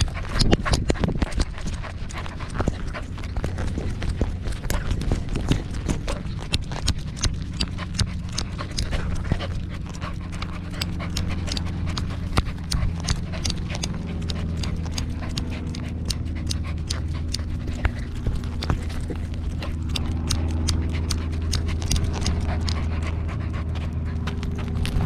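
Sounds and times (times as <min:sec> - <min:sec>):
dog panting: 0:00.0 - 0:25.0
low rumble: 0:00.0 - 0:25.0.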